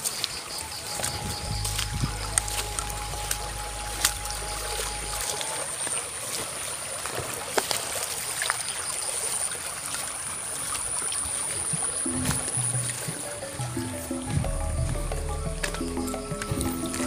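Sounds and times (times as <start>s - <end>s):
water trickling along a ditch: 0.0s - 17.0s.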